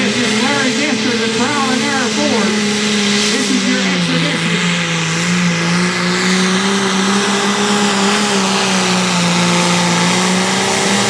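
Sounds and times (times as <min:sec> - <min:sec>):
tractor engine at high revs: 0:00.0 - 0:11.0.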